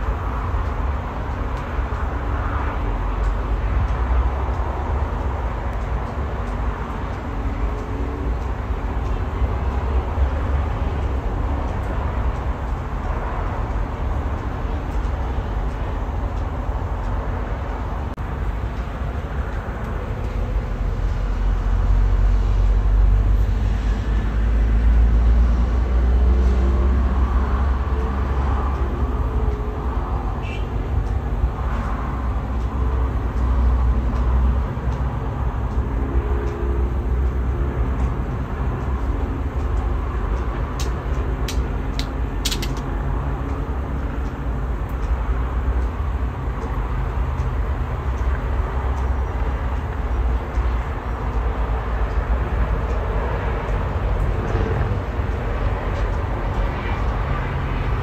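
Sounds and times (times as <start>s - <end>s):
distant city traffic hum: 0.0s - 58.0s.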